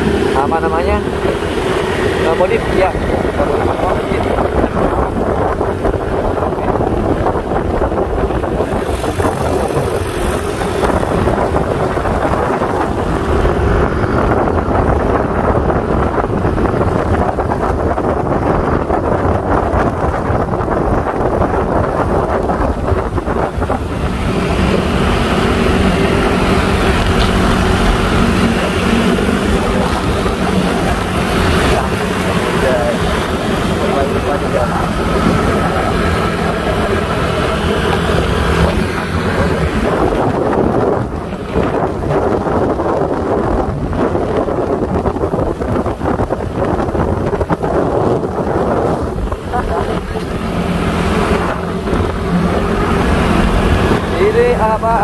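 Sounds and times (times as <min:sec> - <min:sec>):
scooter engines running: 0:00.0 - 0:55.0
wind buffeting microphone: 0:00.0 - 0:55.0.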